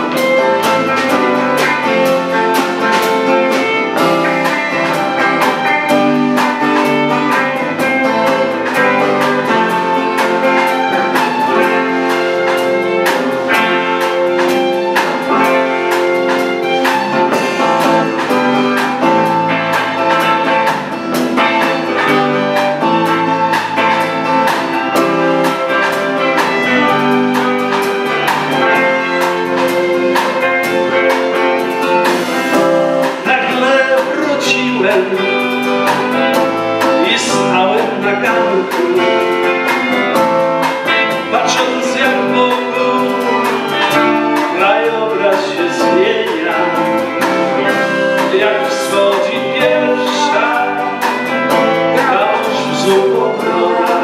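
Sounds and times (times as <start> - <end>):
violin: 0.0 - 34.2, 35.0 - 48.7
bass guitar: 0.0 - 54.0
drum kit: 0.0 - 54.0
electric guitars: 0.0 - 54.0.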